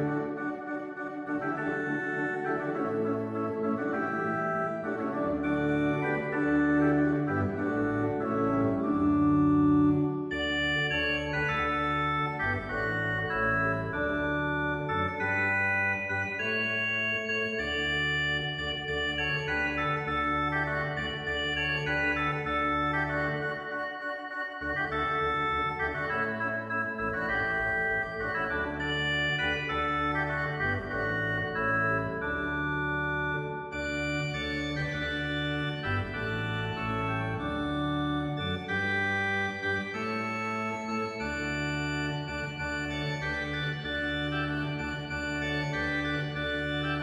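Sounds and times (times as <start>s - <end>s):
organ music: 0.0s - 47.0s.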